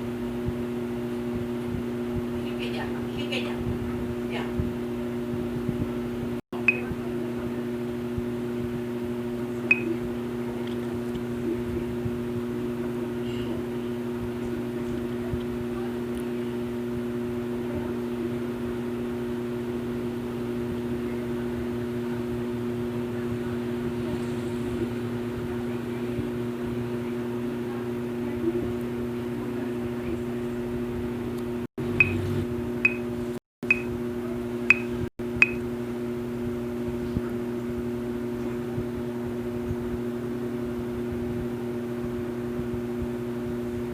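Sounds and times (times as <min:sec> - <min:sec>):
steady two-tone mechanical hum: 0:00.0 - 0:43.9.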